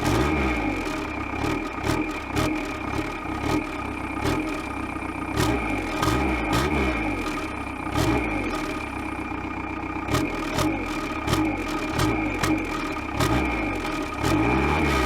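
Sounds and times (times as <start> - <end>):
diesel car engine idling: 0.0 - 15.0.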